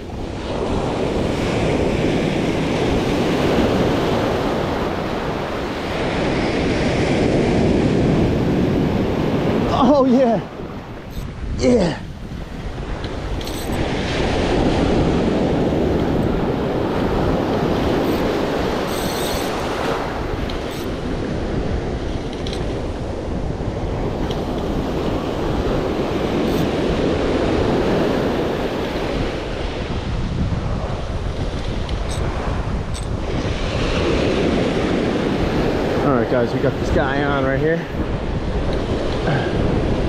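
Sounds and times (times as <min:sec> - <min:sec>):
ocean surf breaking: 0:00.0 - 0:40.0
wind buffeting microphone: 0:00.0 - 0:40.0.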